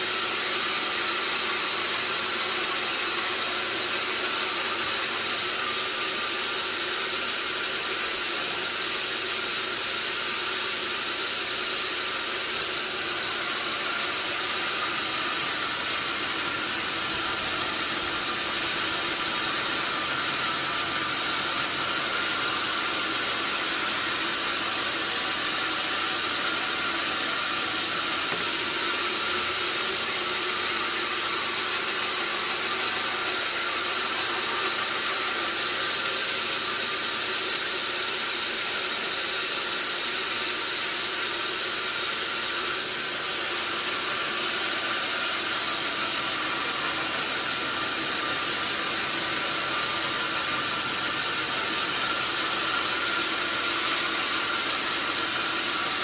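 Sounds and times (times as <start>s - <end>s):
sawmill machinery hissing: 0.0s - 56.0s.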